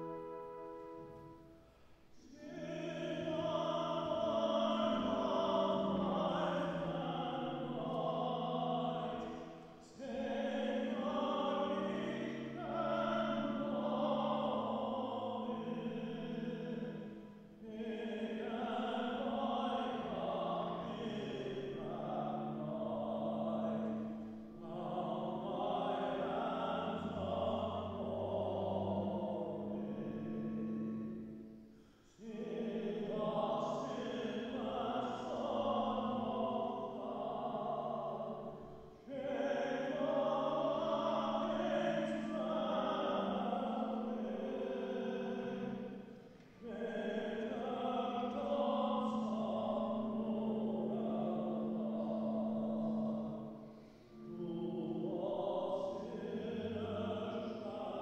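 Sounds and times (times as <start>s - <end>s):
choir singing a slow hymn: 2.1s - 58.0s.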